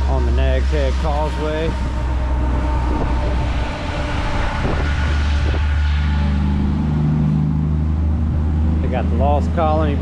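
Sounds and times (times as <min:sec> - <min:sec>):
deep rumble: 0:00.0 - 0:10.0
low engine hum: 0:00.0 - 0:10.0
vehicle passing with tyre noise: 0:00.0 - 0:10.0.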